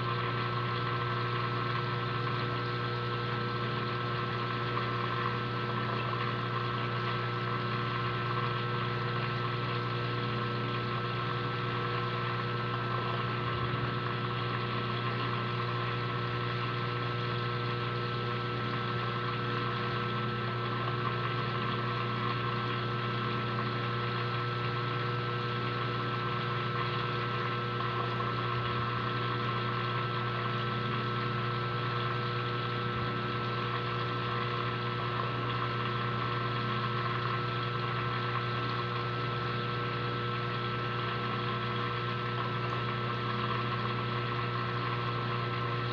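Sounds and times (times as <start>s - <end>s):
aquarium pump humming: 0.0s - 45.9s.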